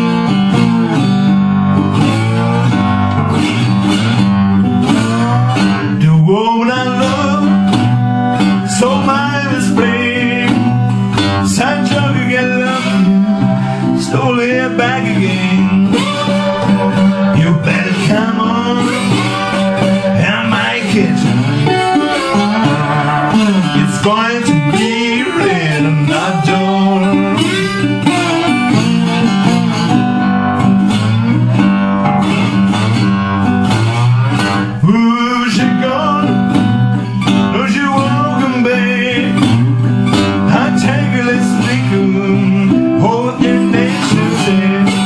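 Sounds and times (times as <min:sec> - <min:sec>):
acoustic guitar playing slow blues: 0:00.0 - 0:45.0.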